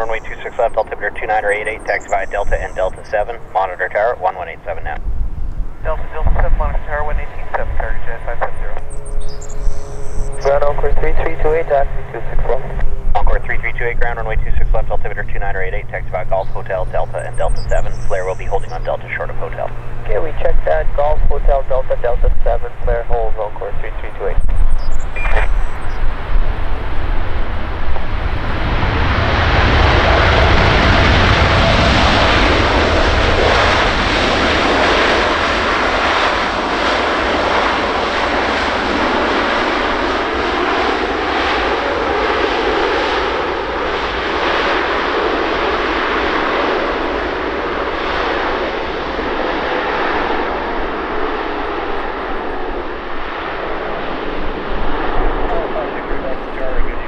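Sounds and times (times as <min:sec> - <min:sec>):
airliner engine roar: 0:00.0 - 0:57.0
faint engine whine: 0:00.0 - 0:57.0.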